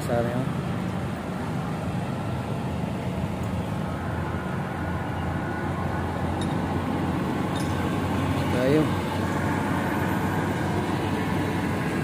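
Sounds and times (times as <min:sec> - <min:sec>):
low engine and machinery rumble: 0:00.0 - 0:12.0.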